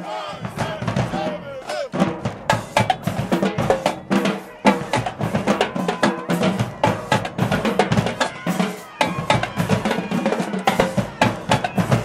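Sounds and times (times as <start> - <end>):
snare and bass drums cadence: 0.3 - 12.0.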